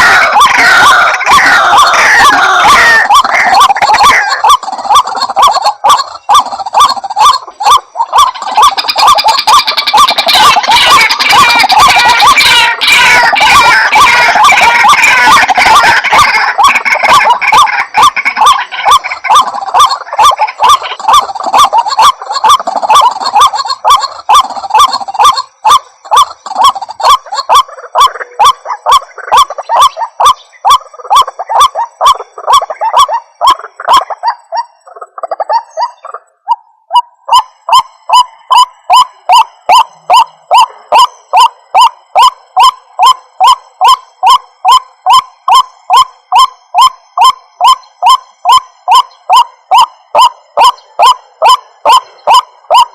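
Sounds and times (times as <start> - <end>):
waterhen calling repeated notes: 0.0 - 52.9.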